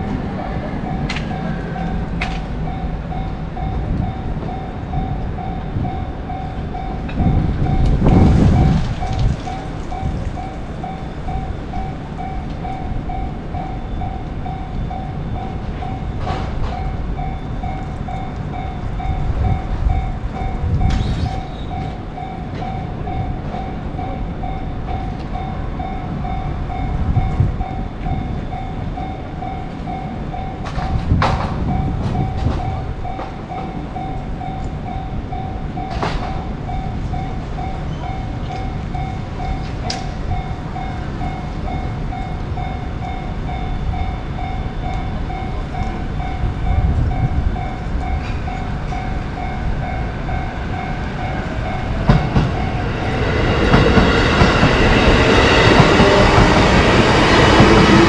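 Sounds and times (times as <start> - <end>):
railroad crossing alarm ringing: 0.0 - 58.0
train rumbling past: 0.0 - 58.0.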